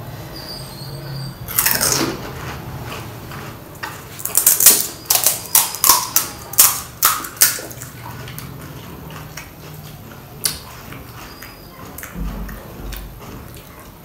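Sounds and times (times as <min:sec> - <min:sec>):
soft chewing: 0:01.5 - 0:14.0
wet crunching of food: 0:01.5 - 0:14.0.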